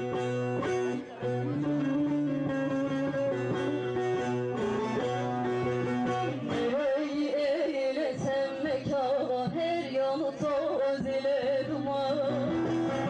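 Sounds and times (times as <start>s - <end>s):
person singing: 0.0s - 13.0s
plucked long-necked lute melody: 0.0s - 13.0s.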